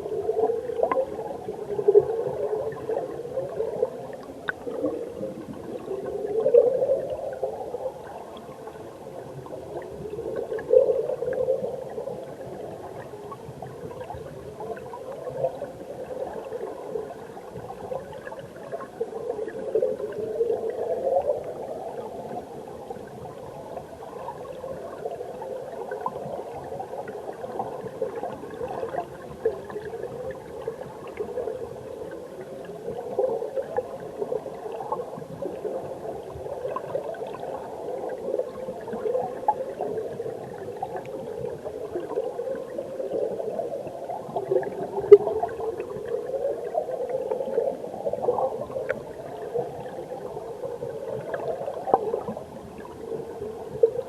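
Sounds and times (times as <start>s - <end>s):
underwater bubbling stream: 0.0s - 54.0s.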